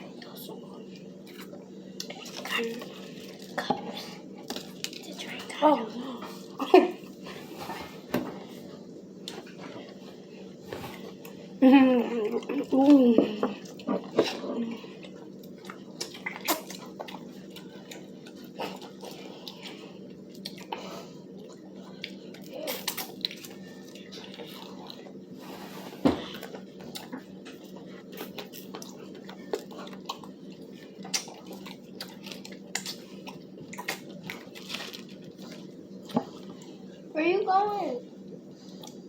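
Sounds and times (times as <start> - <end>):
chewing crispy fried chicken: 0.0 - 7.3, 9.2 - 25.4, 26.2 - 37.1
steady low hum: 0.0 - 39.0.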